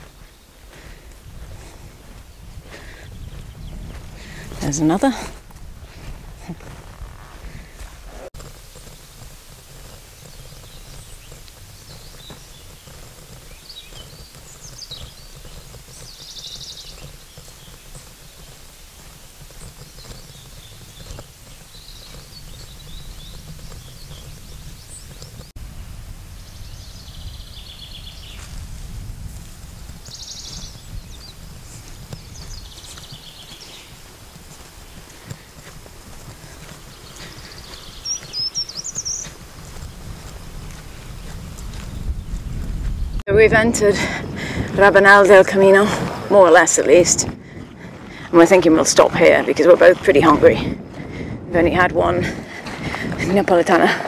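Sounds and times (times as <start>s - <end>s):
songbirds singing: 0.0s - 54.0s
wind rumble: 0.0s - 54.0s.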